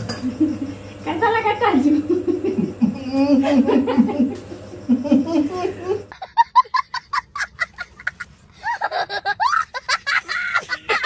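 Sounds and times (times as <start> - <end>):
boy laughing: 2.0 - 11.0.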